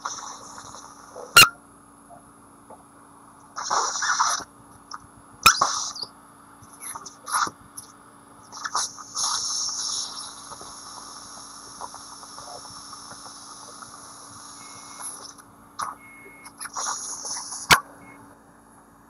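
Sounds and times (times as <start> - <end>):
faint equipment hum: 0.0 - 19.0.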